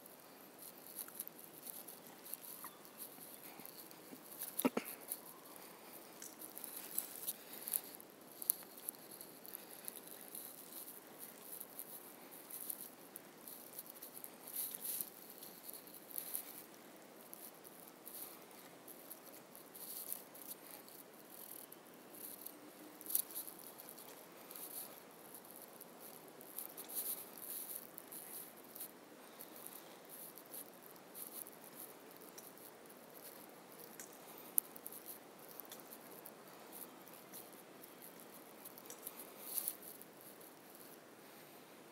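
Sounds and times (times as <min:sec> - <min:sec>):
faint crackling and ticking: 0:00.0 - 0:41.9.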